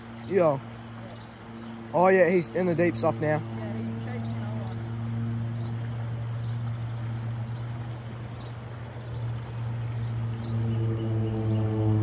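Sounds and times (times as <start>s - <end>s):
small birds chirping: 0.0s - 11.8s
steady low hum: 0.0s - 12.0s.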